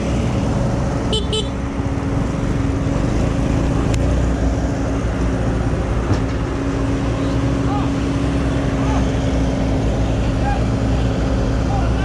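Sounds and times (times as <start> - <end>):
road noise on dirt road: 0.0 - 12.0.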